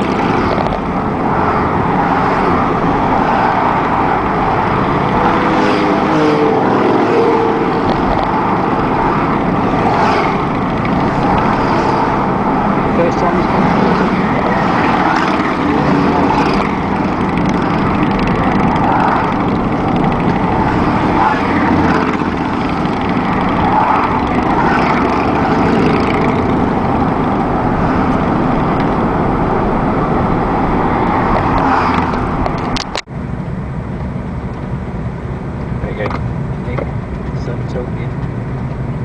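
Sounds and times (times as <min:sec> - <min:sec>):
motorcycle engine: 0:00.0 - 0:33.1
wind rush: 0:00.0 - 0:35.6.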